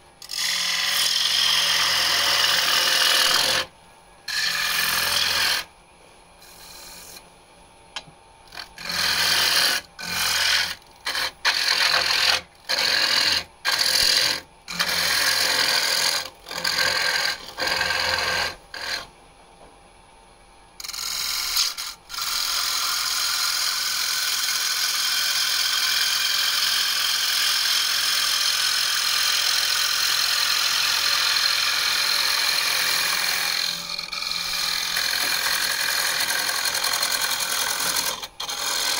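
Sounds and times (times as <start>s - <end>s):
lathe tool scraping wood: 0.2s - 3.7s, 4.3s - 5.7s, 6.4s - 7.2s, 8.5s - 19.1s, 20.8s - 38.9s.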